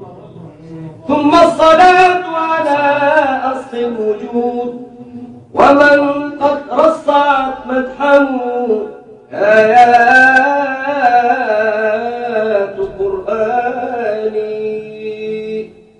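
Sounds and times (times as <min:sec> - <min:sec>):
man chanting devotional song: 0:00.0 - 0:15.9.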